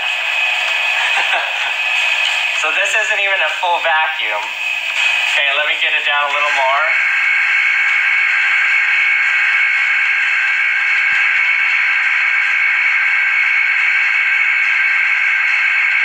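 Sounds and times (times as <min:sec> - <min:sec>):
vacuum pump droning hiss: 0:00.0 - 0:16.0.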